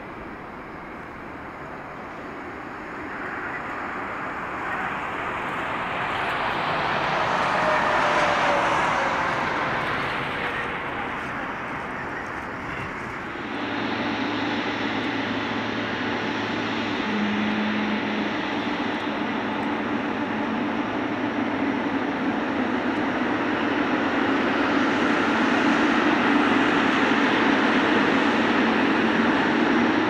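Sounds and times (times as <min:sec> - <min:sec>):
jet airliner taking off: 0:00.0 - 0:30.0
jet engines humming while taxiing: 0:00.0 - 0:30.0.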